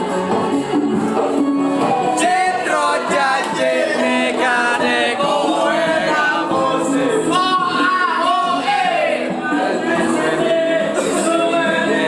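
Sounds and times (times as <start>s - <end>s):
group singing with music: 0.0s - 12.0s.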